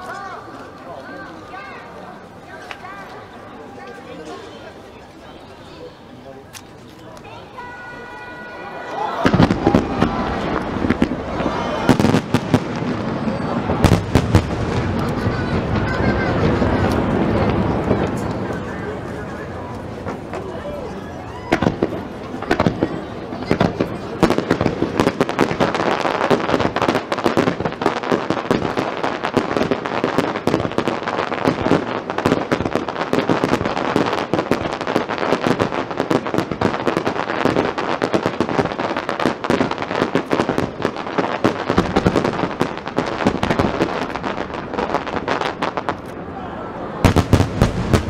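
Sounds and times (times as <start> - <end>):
fireworks bursting and crackling: 0.0 - 48.0.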